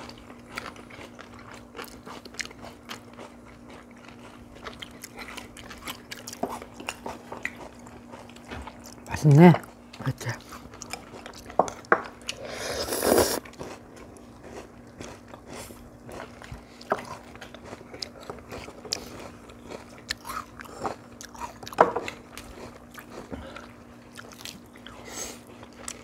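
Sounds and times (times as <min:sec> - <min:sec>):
people chewing food: 0:00.0 - 0:26.0.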